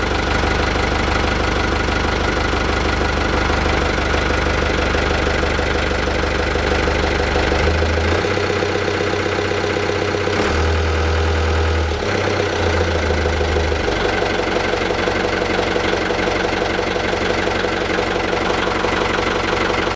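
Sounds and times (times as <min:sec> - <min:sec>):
boat engine idling with knocking: 0:00.0 - 0:10.4, 0:11.2 - 0:19.9.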